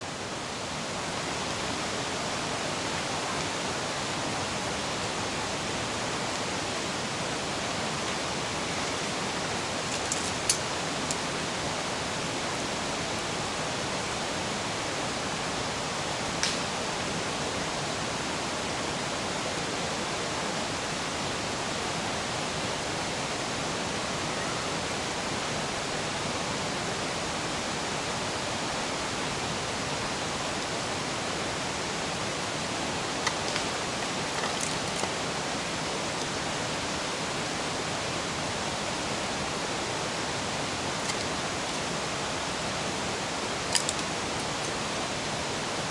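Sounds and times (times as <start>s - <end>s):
river rushing: 0.0s - 45.9s.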